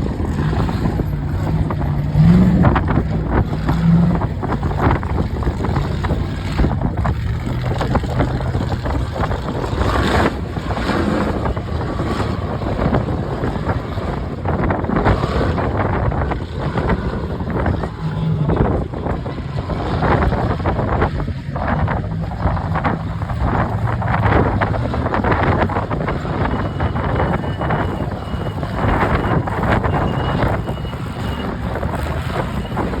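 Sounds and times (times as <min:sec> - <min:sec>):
vehicle engine running: 0:00.0 - 0:33.0
wind buffeting microphone: 0:00.0 - 0:33.0.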